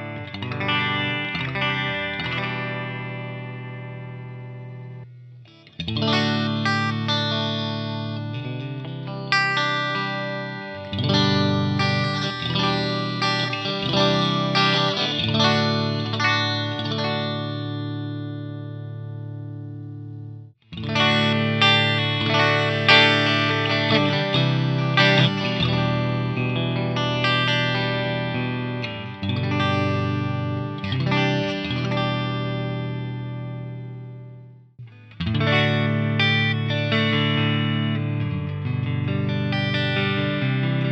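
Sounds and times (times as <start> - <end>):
electric guitar strumming chords: 0.0 - 40.9.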